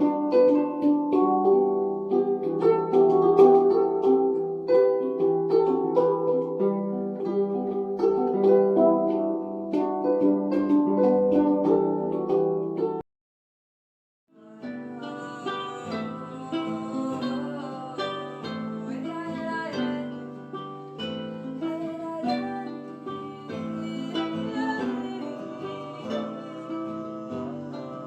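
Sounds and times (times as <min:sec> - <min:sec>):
plucked string instrument music: 0:00.0 - 0:13.0, 0:14.4 - 0:28.0.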